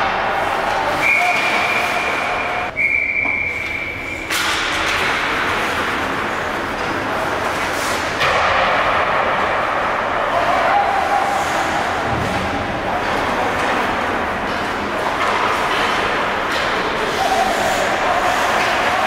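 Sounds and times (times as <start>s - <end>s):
skates and sticks on ice: 0.0s - 19.0s.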